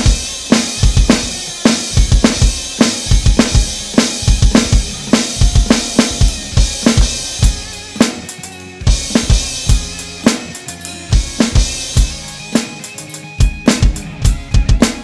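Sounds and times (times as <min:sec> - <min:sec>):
backing track music: 0:00.0 - 0:15.0
rock drum groove: 0:00.0 - 0:15.0.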